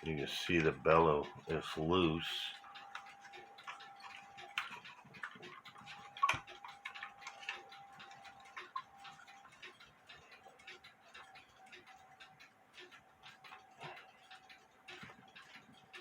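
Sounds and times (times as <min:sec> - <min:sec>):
light clicks and ticks: 0:00.0 - 0:16.0.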